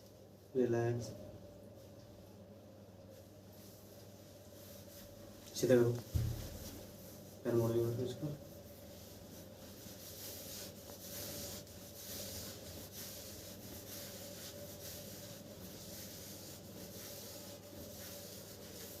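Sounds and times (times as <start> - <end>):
steady low hum: 0.0 - 19.0
hands rubbing clothing: 3.0 - 19.0.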